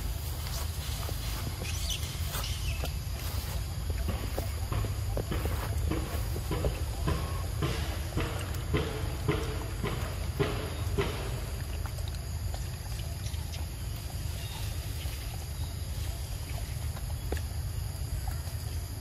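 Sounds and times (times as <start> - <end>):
monkey chewing fruit: 0.0 - 19.0.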